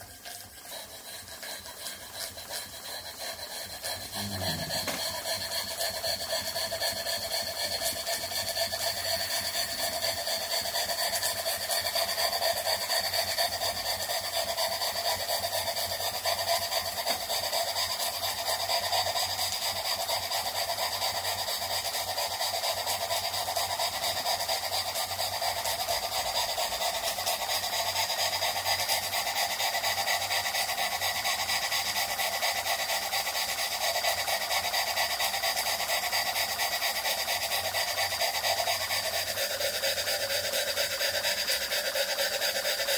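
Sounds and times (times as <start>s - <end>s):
model steam engine running: 0.0s - 42.9s.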